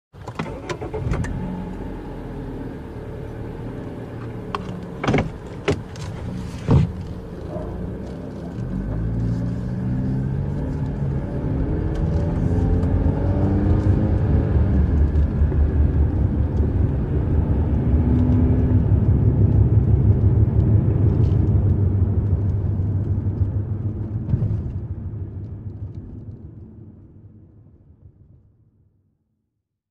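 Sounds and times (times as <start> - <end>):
car engine accelerating: 0.4 - 26.4.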